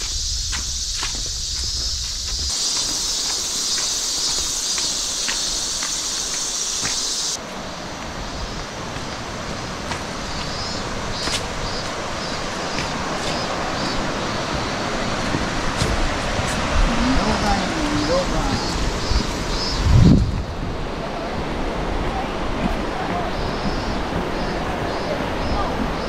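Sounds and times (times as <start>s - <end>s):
footsteps on paved path: 0.0s - 20.9s, 21.5s - 26.0s
insects buzzing: 0.0s - 20.9s, 23.0s - 26.0s
steady rushing noise: 0.0s - 26.0s.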